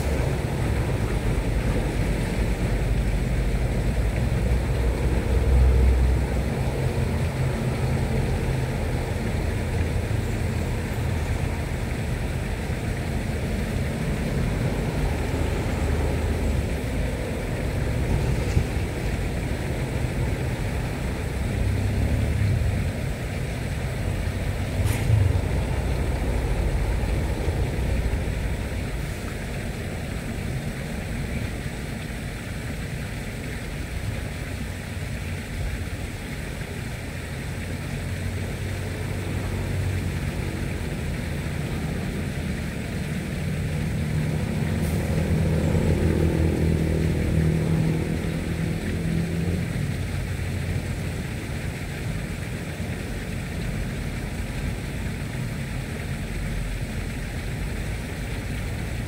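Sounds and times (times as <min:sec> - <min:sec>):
wind and water noise: 0:00.0 - 0:59.0.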